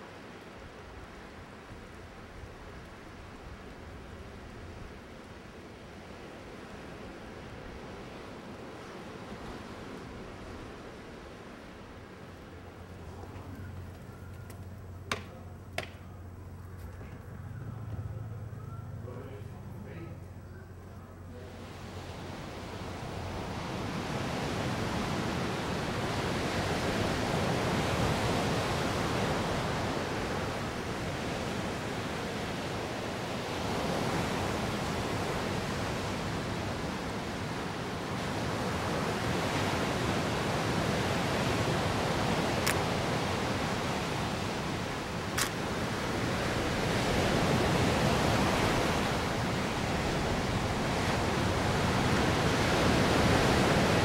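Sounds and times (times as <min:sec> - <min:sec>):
ocean waves breaking: 0:00.0 - 0:16.6, 0:21.0 - 0:54.0.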